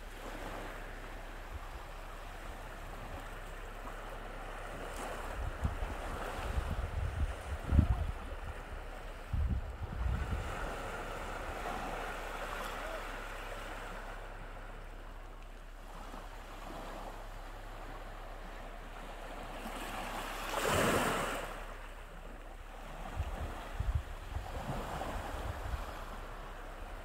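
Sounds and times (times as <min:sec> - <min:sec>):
wind buffeting microphone: 0:00.0 - 0:15.0, 0:15.9 - 0:27.0
sea waves washing on shore: 0:00.0 - 0:27.0.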